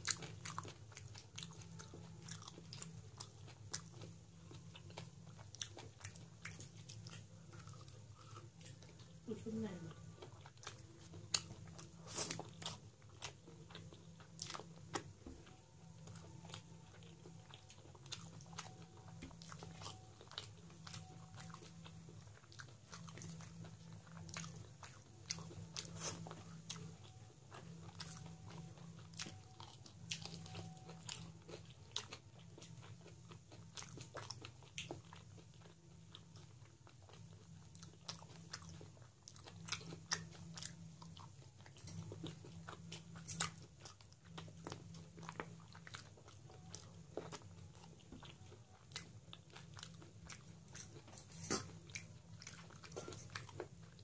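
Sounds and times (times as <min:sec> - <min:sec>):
person chewing and biting food: 0:00.0 - 0:09.2, 0:10.0 - 0:54.0
steady low hum: 0:00.0 - 0:54.0.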